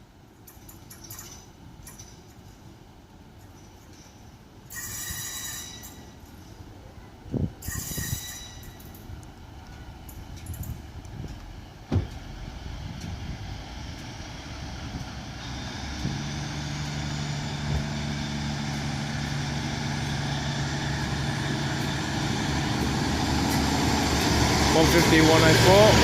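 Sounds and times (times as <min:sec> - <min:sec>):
train diesel engine running: 0:01.5 - 0:26.0.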